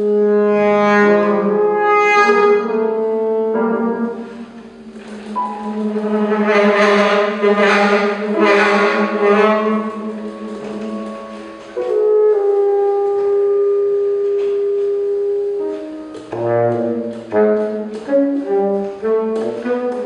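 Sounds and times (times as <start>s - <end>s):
piano: 0.0s - 20.0s
tenor saxophone: 0.0s - 20.0s.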